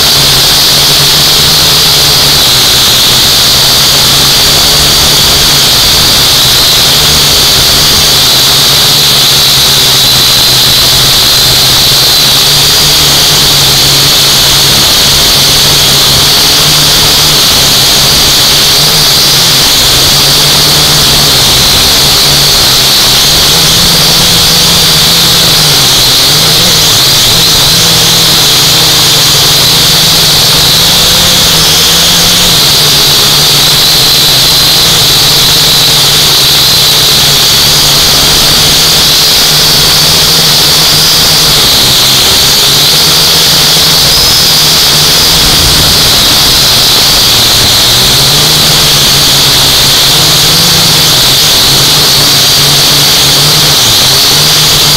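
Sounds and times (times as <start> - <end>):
drone motors whining: 0.0 - 54.9.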